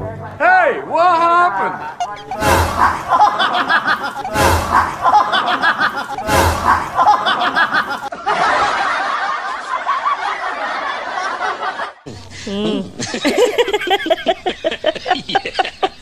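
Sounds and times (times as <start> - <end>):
snickering laughter: 2.0 - 16.0.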